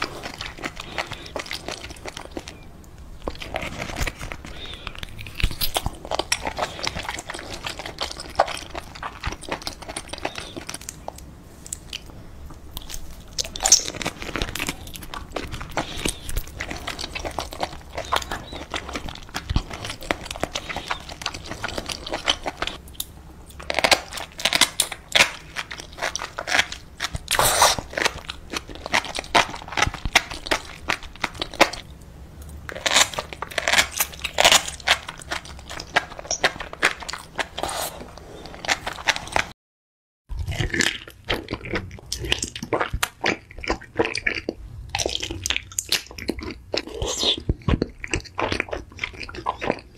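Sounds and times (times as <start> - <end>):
wet sticky chewing: 0.0 - 39.5, 40.3 - 49.9.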